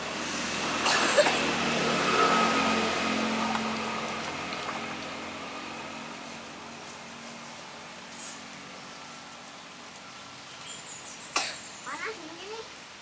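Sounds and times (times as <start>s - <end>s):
vehicle passing by: 0.0s - 11.2s.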